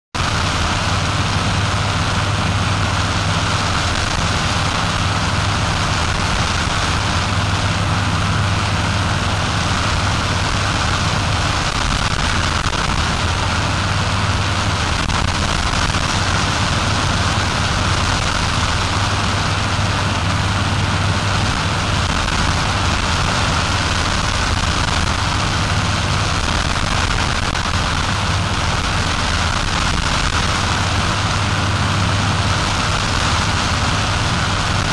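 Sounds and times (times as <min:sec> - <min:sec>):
constant rushing noise: 0:00.2 - 0:34.9
paramotor engine and propeller: 0:00.2 - 0:34.9.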